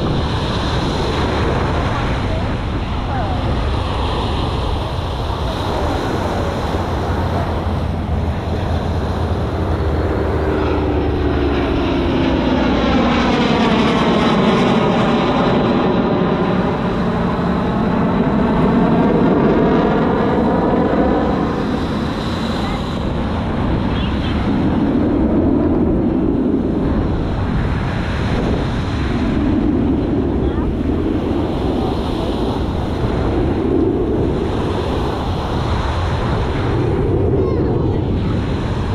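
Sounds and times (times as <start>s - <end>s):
airplane flying past: 0.0s - 38.9s.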